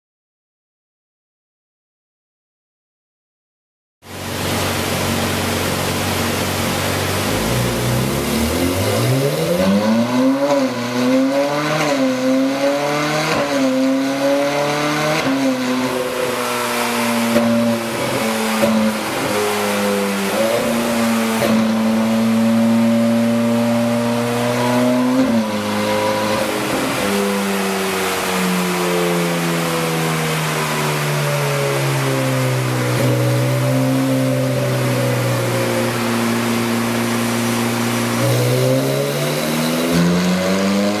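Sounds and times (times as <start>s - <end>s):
car engine revving on dyno: 4.1s - 41.0s.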